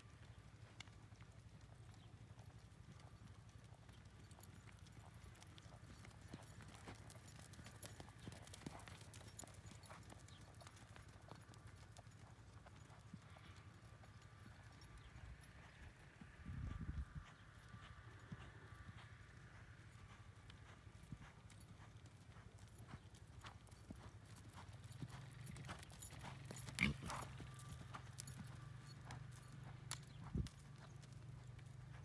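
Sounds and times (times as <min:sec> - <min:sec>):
horse hoofbeats on sand: 0:00.2 - 0:32.0.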